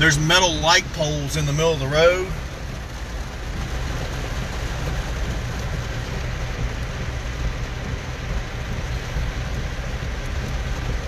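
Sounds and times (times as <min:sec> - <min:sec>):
vehicle driving from inside cabin: 0:00.0 - 0:11.0.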